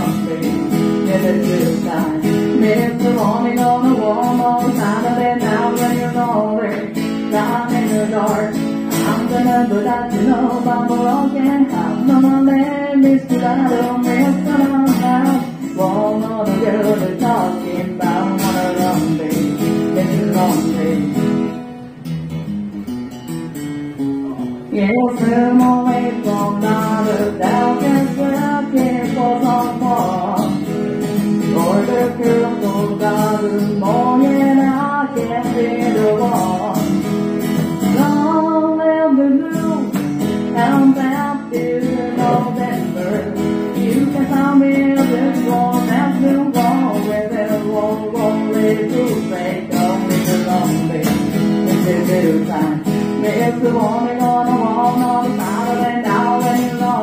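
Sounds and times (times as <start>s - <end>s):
woman singing country song: 0.0s - 21.8s, 24.7s - 57.0s
acoustic guitar strumming: 0.0s - 57.0s.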